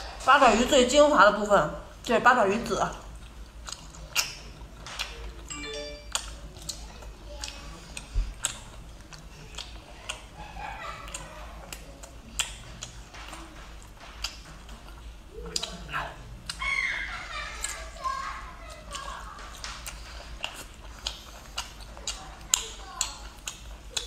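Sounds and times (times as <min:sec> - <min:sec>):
person chewing with wet clicks: 0:02.8 - 0:24.0.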